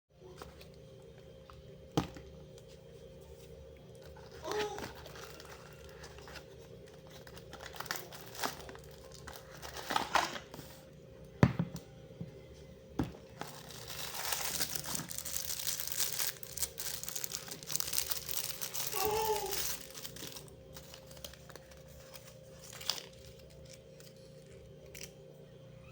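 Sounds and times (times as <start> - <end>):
crinkling and handling noises: 0.2 - 10.8, 12.5 - 25.3
faint steady hum: 0.2 - 25.9.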